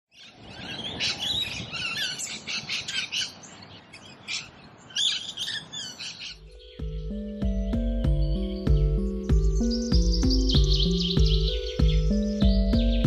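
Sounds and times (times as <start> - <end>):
birds chirping and calling: 0.1 - 13.0.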